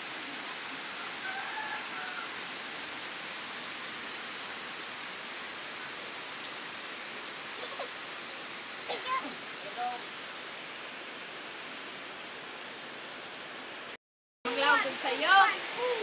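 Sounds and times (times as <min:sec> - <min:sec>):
rain falling on plants: 0:00.0 - 0:16.0.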